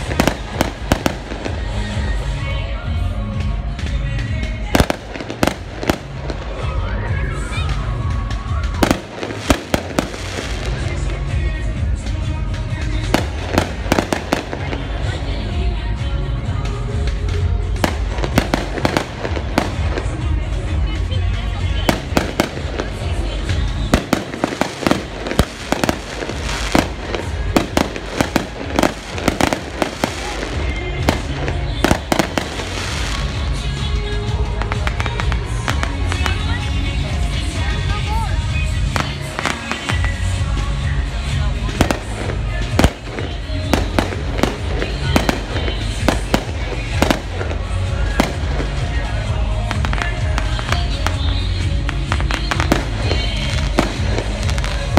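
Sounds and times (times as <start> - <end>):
fireworks bangs: 0.0 - 2.6, 3.4 - 15.6, 16.5 - 54.9
continuous noisy background: 0.0 - 54.9
fireworks crackle: 0.0 - 54.9.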